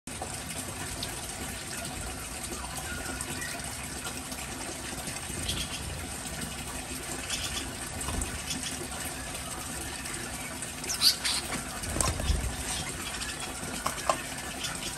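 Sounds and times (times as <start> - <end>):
rushing water: 0.1 - 14.9.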